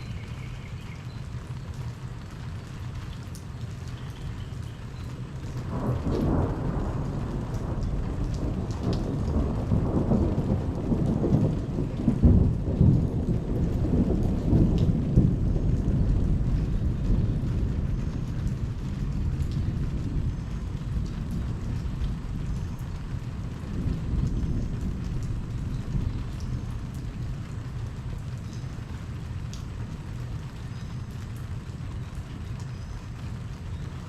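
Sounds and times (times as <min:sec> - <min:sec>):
steady rain: 0:00.0 - 0:34.0
thunder rumbling: 0:04.2 - 0:34.0.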